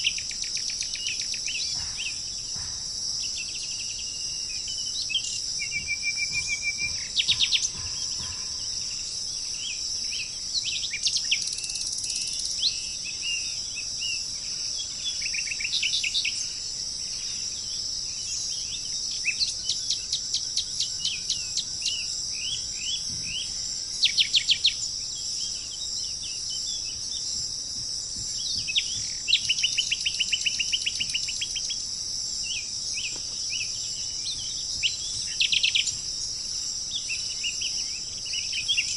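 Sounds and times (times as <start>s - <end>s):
insect chorus: 0.0s - 38.9s
wild birds singing: 0.0s - 38.9s.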